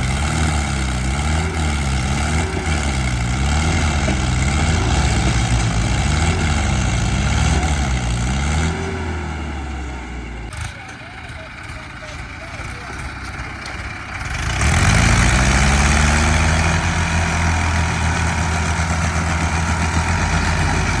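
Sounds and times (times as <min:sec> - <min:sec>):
tractor engine under load: 0:00.0 - 0:21.0.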